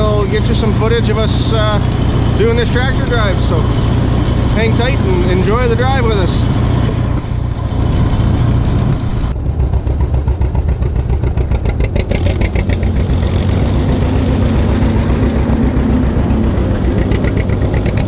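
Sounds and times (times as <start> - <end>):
tractors driving on gravel: 0.0 - 18.0
two-cylinder tractor engine: 0.0 - 18.0.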